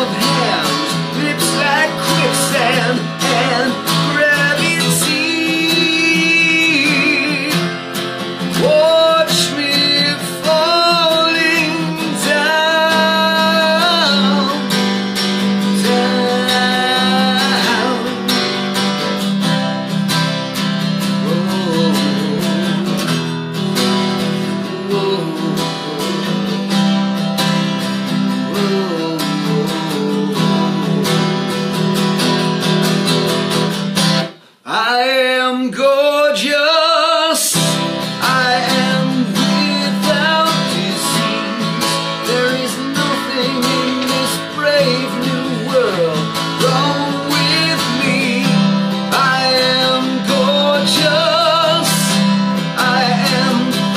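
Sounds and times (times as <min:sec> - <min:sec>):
man singing: 0:00.0 - 0:53.9
strummed acoustic guitar: 0:00.0 - 0:53.9.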